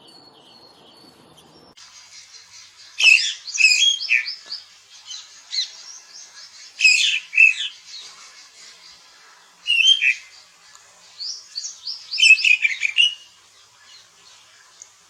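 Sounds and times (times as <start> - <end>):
songbirds chirping and trilling: 0.0 - 15.0
faint steady background hiss: 1.4 - 15.0.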